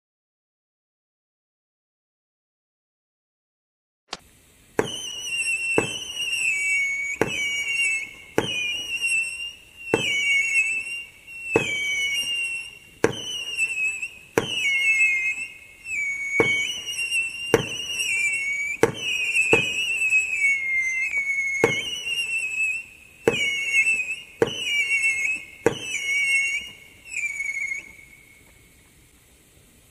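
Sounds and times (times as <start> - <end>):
firework pops: 4.1 - 29.0
firework whistles: 4.7 - 29.9.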